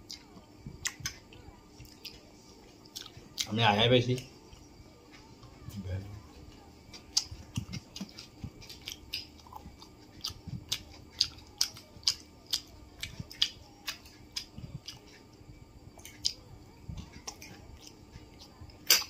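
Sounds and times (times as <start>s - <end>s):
man chewing with wet smacks: 0.0s - 3.5s, 6.5s - 19.0s.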